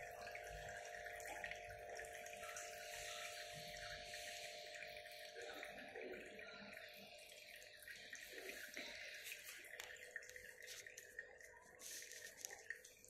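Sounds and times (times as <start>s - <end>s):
fountain water trickling and dripping: 0.0s - 13.0s.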